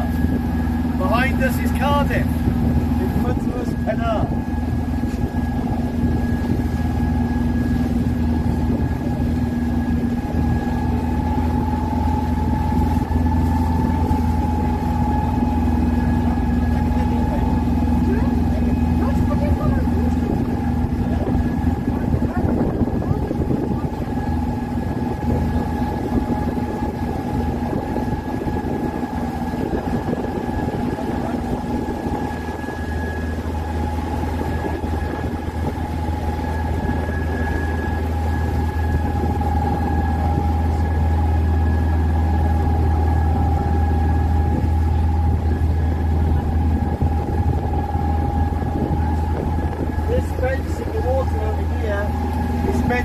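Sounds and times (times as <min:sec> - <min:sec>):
boat engine droning: 0:00.0 - 0:53.0.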